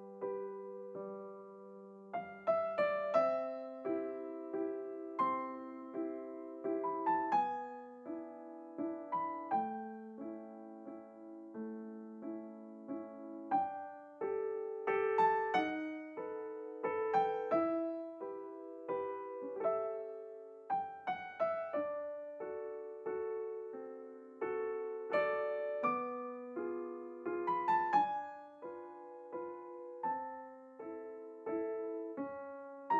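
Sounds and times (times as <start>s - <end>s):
solo piano music: 0.0s - 32.9s.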